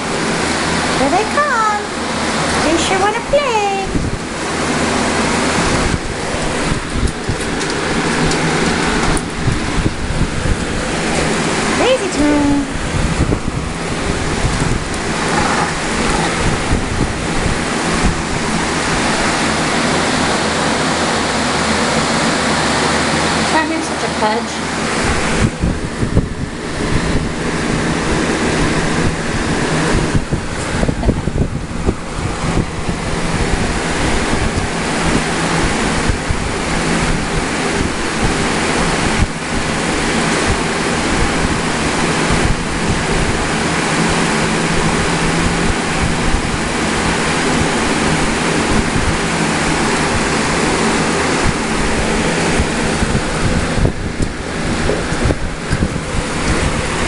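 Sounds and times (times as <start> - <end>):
low steady hum: 0.0 - 57.0
rushing water: 4.0 - 57.0.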